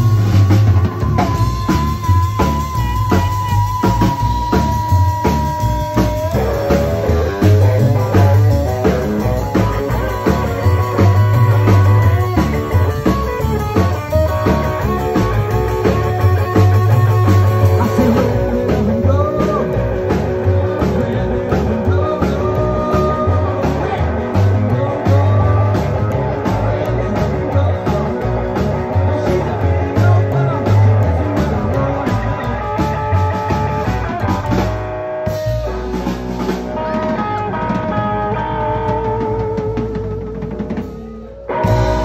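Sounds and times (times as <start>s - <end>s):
electric guitar lead lines: 0.0s - 42.0s
rockabilly band playing: 0.0s - 42.0s.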